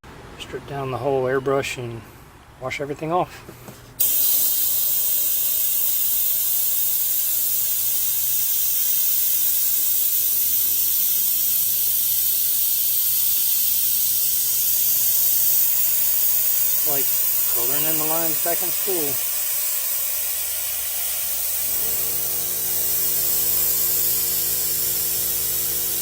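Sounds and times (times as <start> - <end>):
airbrush hissing air: 4.0 - 26.0.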